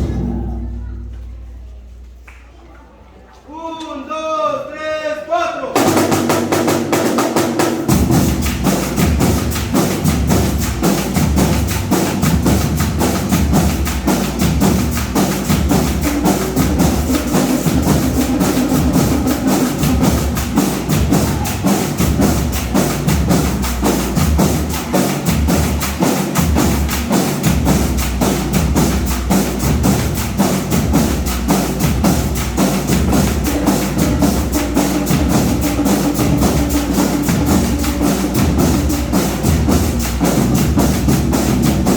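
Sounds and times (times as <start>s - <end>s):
marching band drums and percussion: 5.8s - 41.9s.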